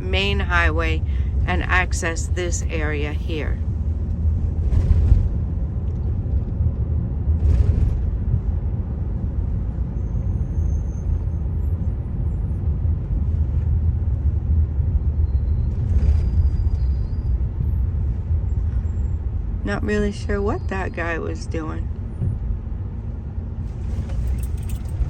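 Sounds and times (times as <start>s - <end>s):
car road rumble: 0.0s - 25.0s.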